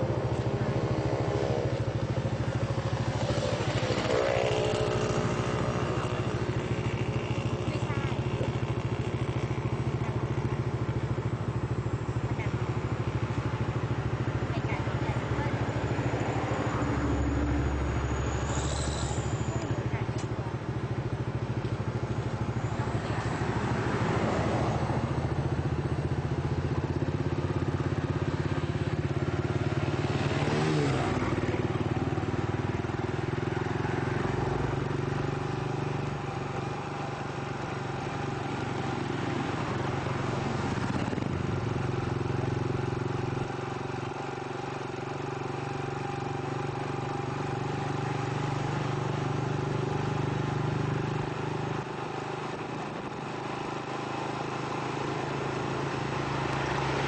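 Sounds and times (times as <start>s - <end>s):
road noise: 0.0s - 57.0s
traffic passing by: 0.0s - 57.0s
vehicle engine running: 0.0s - 57.0s.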